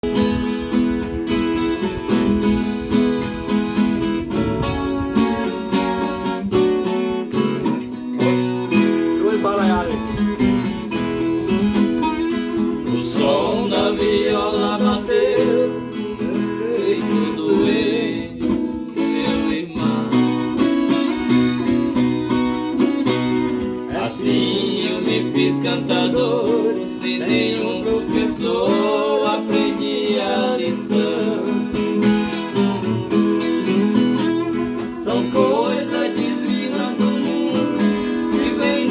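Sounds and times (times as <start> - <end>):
instrumental country music: 0.0 - 38.9
plucked and strummed guitars: 0.0 - 38.9.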